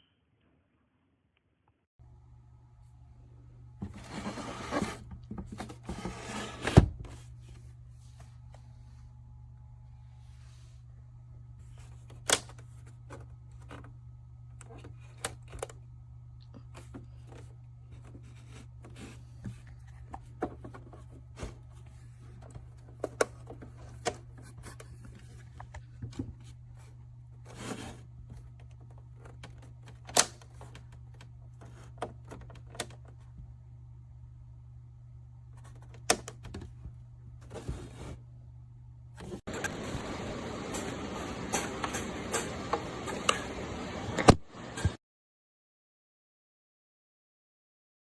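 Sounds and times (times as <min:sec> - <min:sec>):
steady low hum: 0:02.0 - 0:45.0.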